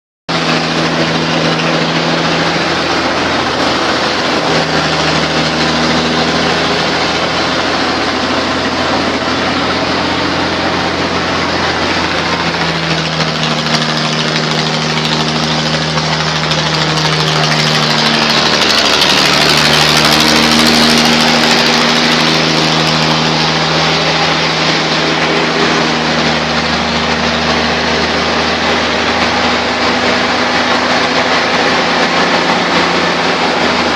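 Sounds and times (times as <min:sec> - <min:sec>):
machine mechanical drone: 0:00.3 - 0:33.9.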